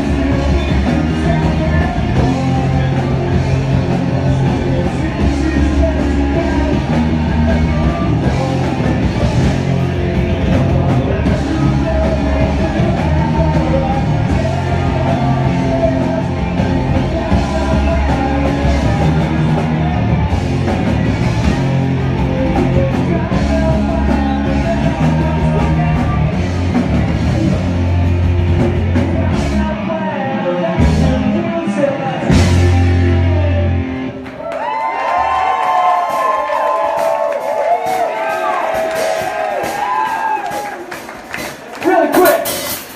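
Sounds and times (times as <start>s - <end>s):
live rock band playing: 0.0s - 42.9s
vocals: 0.0s - 42.9s.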